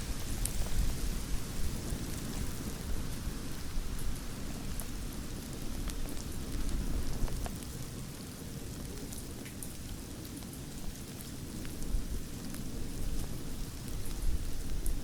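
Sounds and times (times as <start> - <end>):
campfire crackling: 0.0 - 15.0
low rumble of burning: 0.0 - 15.0.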